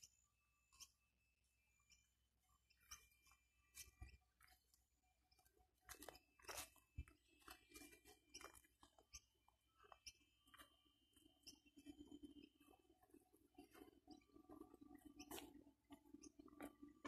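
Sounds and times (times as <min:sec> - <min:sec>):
faint clicks and crackles: 0:00.0 - 0:17.0.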